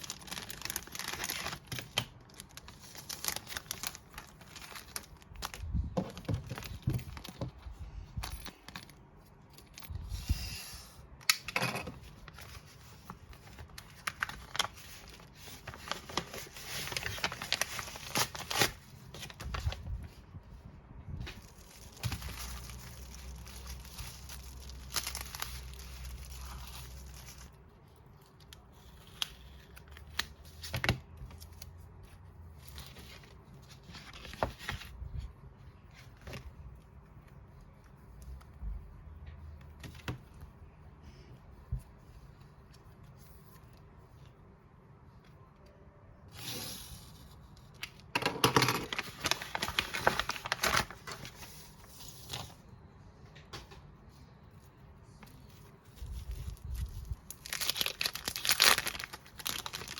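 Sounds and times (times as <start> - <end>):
plastic and paper crinkling: 0.0 - 10.1, 12.0 - 40.8, 47.2 - 52.8, 54.7 - 59.9
light rustling of packaging: 0.0 - 10.3, 10.9 - 59.9.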